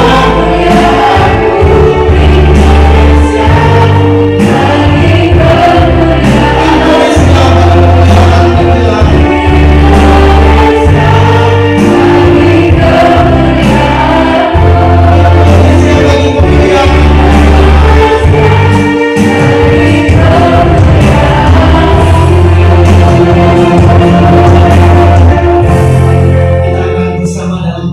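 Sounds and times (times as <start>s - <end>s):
group singing worship song: 0.0s - 27.4s
deep bass notes: 0.0s - 27.9s
instrumental accompaniment: 0.0s - 27.9s.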